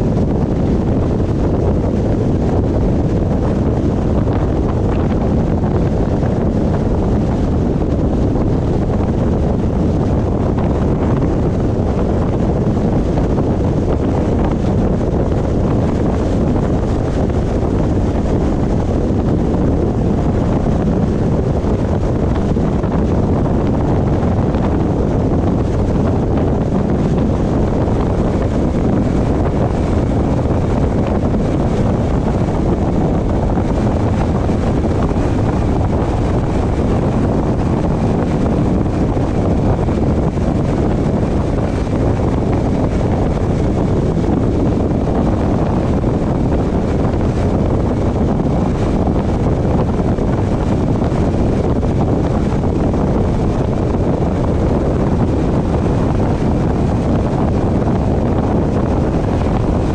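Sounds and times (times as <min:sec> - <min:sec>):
car road noise: 0:00.0 - 0:59.9
wind on microphone: 0:00.0 - 0:59.9.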